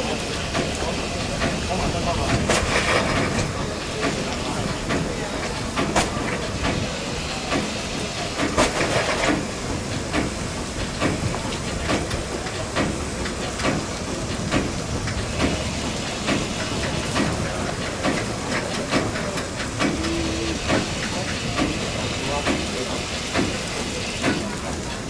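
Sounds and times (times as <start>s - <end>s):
steam locomotive hissing and chuffing: 0.0s - 25.0s.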